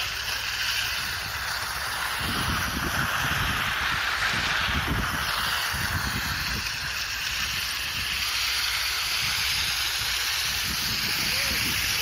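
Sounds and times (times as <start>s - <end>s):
power trowel swishing on concrete: 0.0s - 12.0s.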